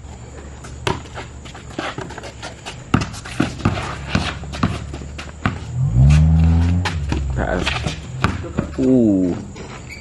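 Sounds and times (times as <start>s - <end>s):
sneakers scuffing and stepping: 0.4s - 10.0s
ball bouncing on concrete: 0.6s - 9.5s.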